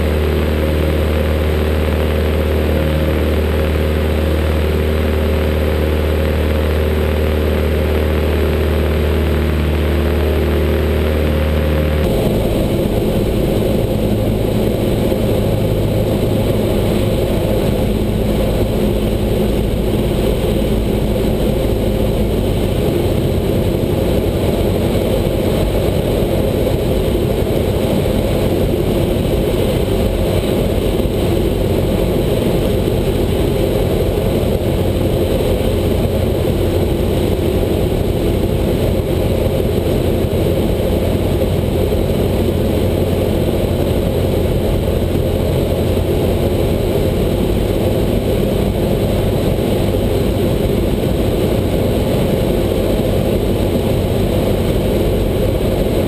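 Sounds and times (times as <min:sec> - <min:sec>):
plane engine and propeller running: 0:00.0 - 0:56.0.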